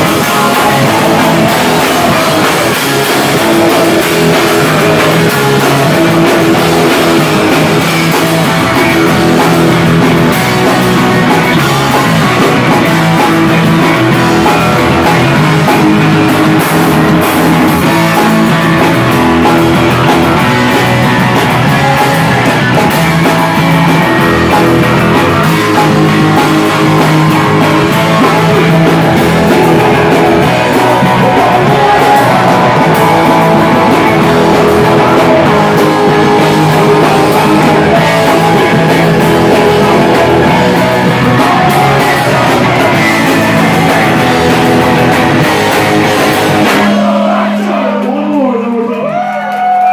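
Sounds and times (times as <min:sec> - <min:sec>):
live rock band: 0:00.0 - 0:49.9.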